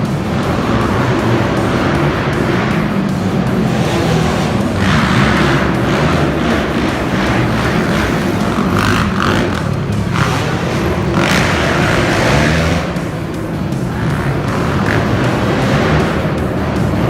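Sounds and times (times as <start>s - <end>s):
monster truck engine revving: 0.7s - 17.0s.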